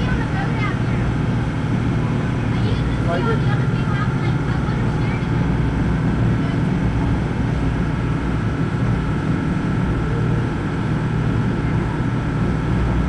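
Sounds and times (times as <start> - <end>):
motorboat engine drone: 0.0 - 13.0
water noise: 0.0 - 13.0.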